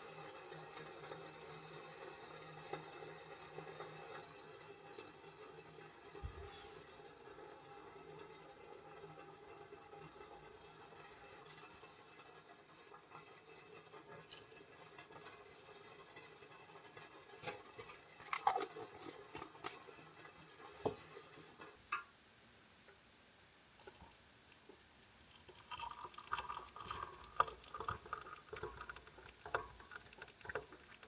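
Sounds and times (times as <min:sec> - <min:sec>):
faint steady background noise: 0:00.0 - 0:31.0.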